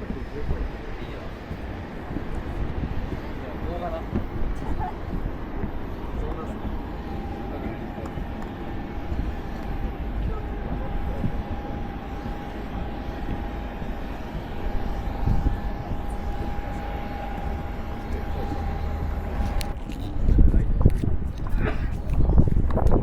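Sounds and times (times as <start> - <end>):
jet engines whining: 0.0 - 22.4.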